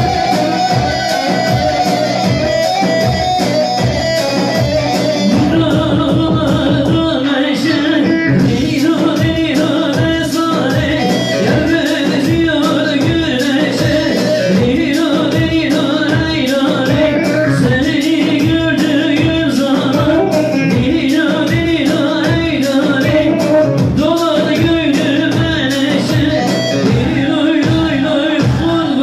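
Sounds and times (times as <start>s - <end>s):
folk dance music with steady beat: 0.0s - 29.0s
man singing into a microphone: 0.0s - 29.0s.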